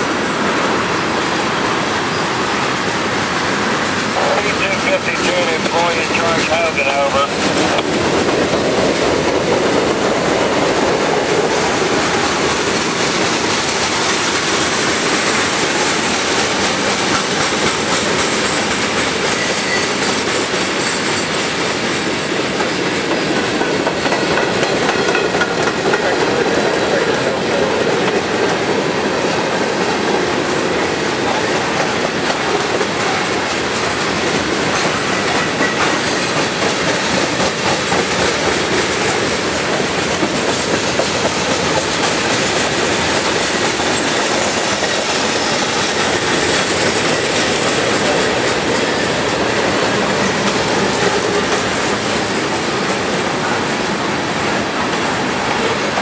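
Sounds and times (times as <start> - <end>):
train wheels rumbling on rails: 0.0 - 56.0
wheels clicking over rail joints: 6.4 - 53.6.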